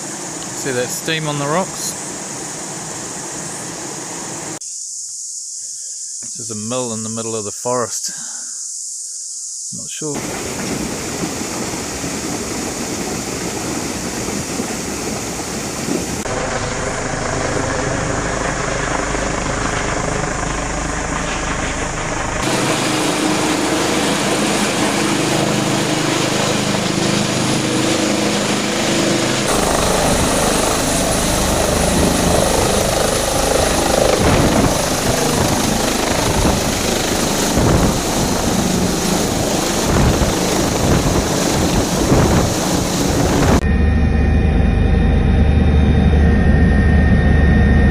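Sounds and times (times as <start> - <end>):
helicopter rotor and engine drone: 0.0 - 4.6, 10.2 - 47.9.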